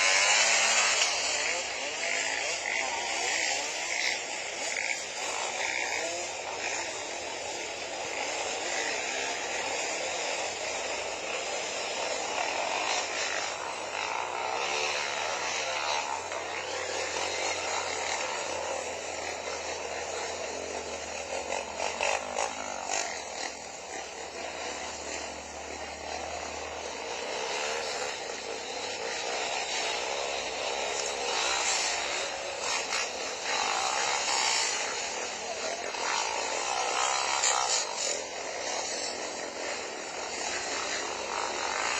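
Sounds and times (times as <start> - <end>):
motorcycle engines buzzing and revving: 0.0 - 41.9.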